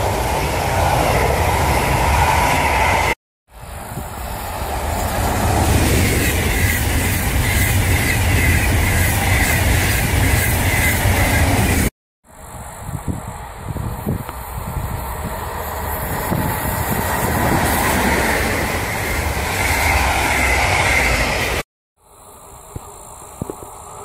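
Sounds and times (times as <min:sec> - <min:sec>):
passenger trains rushing past: 0:00.0 - 0:21.6.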